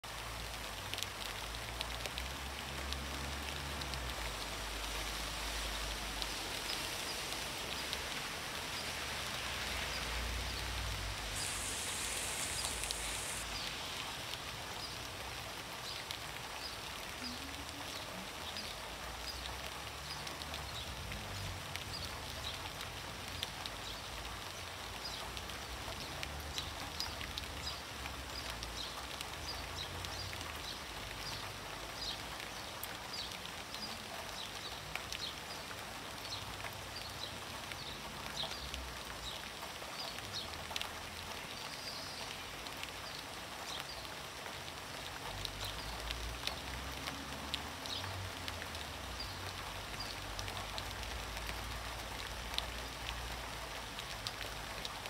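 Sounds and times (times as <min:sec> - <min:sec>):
rain falling into puddle: 0:00.0 - 0:55.0.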